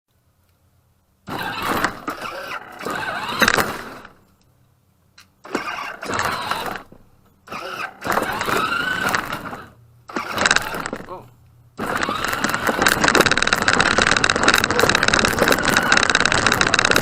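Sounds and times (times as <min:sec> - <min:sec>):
toy car engine revving: 0:01.3 - 0:04.2, 0:05.4 - 0:11.2, 0:11.8 - 0:17.0.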